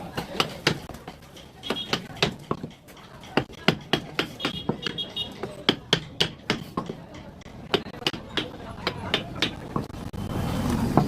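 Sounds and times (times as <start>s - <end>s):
sharp knocks and taps: 0.2s - 10.0s.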